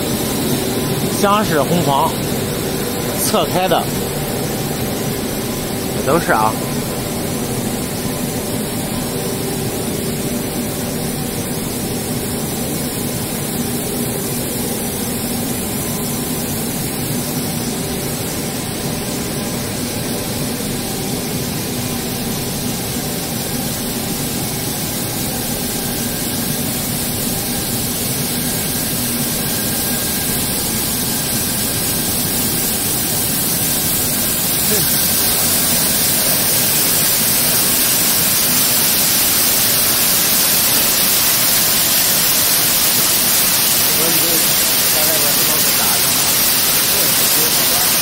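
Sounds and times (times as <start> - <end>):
industrial machine drone: 0.0 - 48.0.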